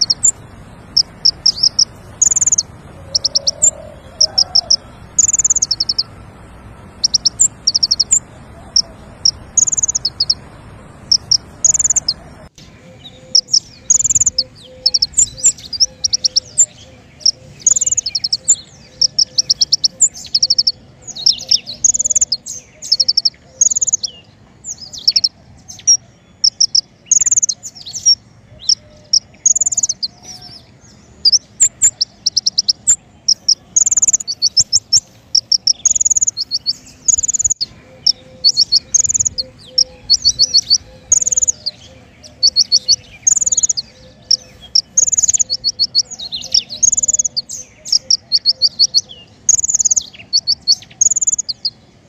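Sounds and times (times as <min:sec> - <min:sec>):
songbird singing rapid high phrases: 0:00.0 - 0:52.0.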